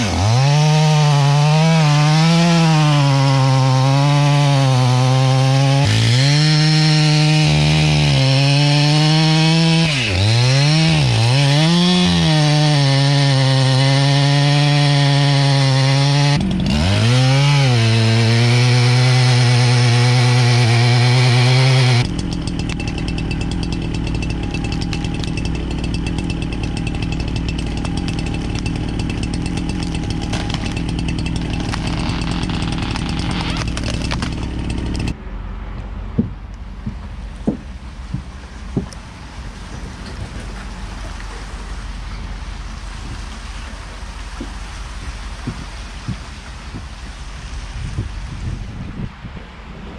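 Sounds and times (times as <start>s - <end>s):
chainsaw cutting wood: 0.0s - 35.2s, 42.6s - 48.6s.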